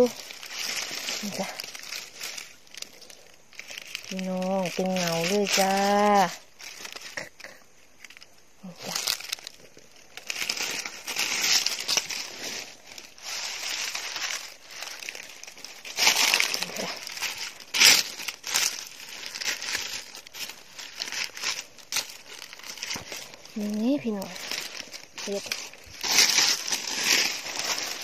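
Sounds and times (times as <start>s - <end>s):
dry leaves crackling and rustling: 0.0s - 28.0s
sharp leaf crunch: 0.0s - 28.0s.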